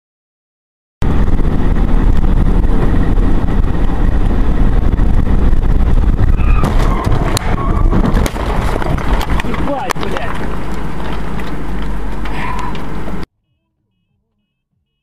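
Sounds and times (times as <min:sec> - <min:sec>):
car road and engine rumble: 0:01.0 - 0:13.3.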